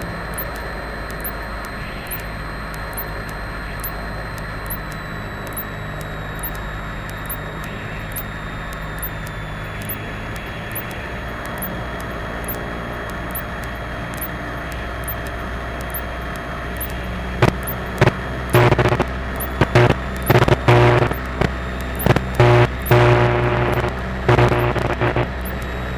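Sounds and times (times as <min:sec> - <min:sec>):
loud pitched tone bursts: 0:00.0 - 0:14.4, 0:15.0 - 0:25.9
aircraft piston engine droning: 0:00.0 - 0:25.9.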